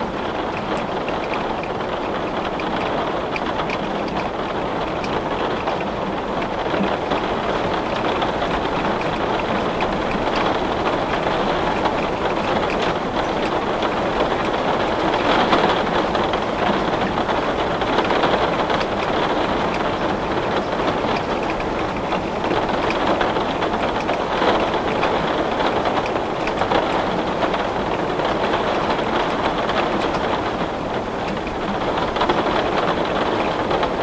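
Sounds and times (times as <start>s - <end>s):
heavy rain on window glass: 0.0s - 34.0s.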